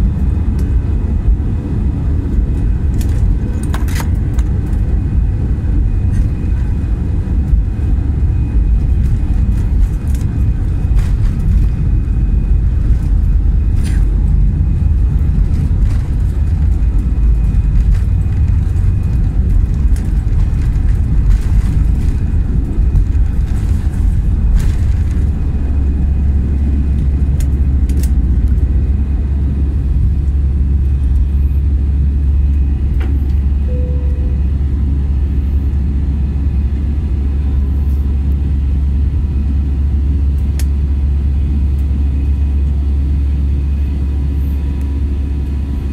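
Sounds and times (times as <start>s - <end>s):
jet engine and runway rumble: 0.0s - 45.9s.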